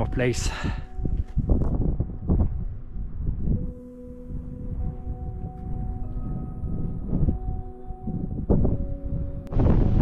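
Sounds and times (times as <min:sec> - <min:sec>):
soft ambient music: 0:00.0 - 0:10.0
wind buffeting microphone: 0:00.0 - 0:10.0.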